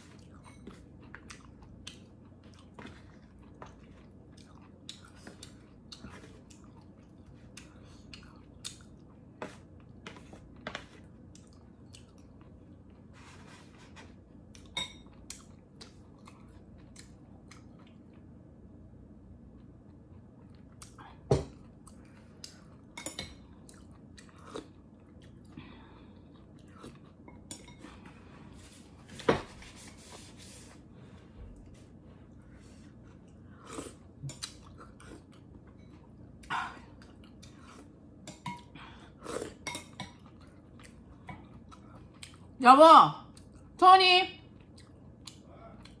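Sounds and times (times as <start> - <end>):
chewing: 0.0 - 13.1, 14.5 - 18.4, 19.5 - 28.2, 32.9 - 42.6, 44.5 - 46.0.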